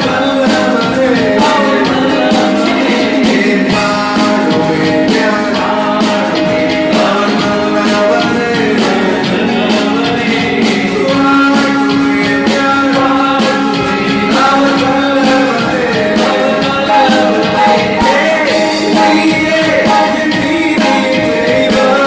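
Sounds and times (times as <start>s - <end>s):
keyboard: 0.0s - 22.0s
people singing: 0.0s - 22.0s
steady beat: 0.0s - 22.0s.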